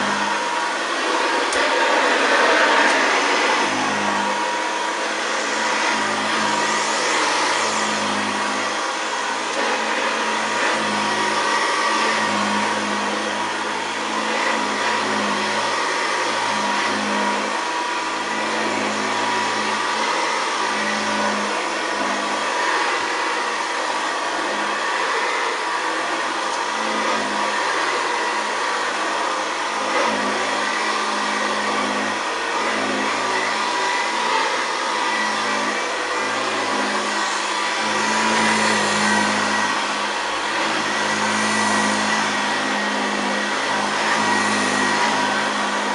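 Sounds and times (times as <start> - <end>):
vacuum cleaner high whine: 0.0 - 45.9
vacuum cleaner motor drone: 0.0 - 45.9.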